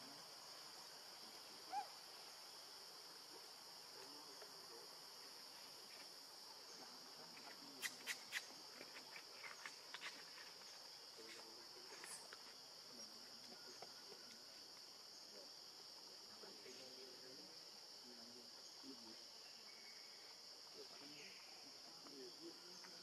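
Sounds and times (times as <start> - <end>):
insect drone: 0.0 - 23.0.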